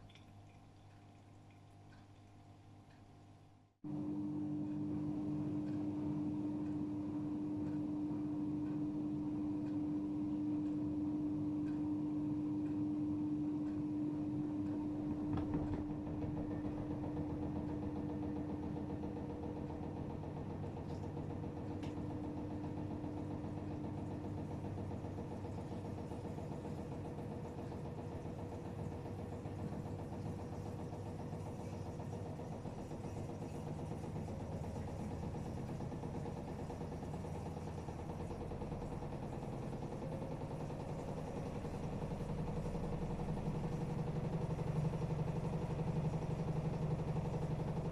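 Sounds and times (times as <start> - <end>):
washing machine motor humming: 0.0 - 47.9.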